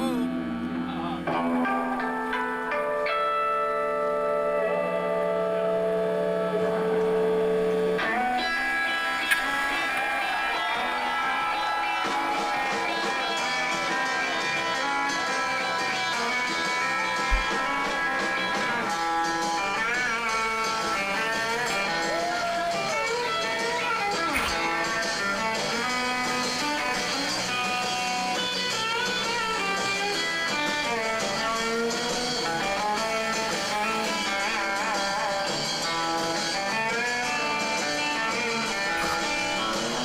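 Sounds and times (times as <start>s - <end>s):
guitar background music: 0.0s - 40.0s.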